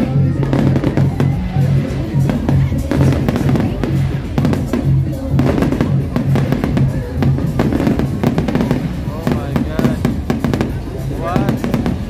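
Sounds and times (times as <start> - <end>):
fireworks bursting and crackling: 0.0 - 12.0
loud music with bass drum: 0.0 - 12.0.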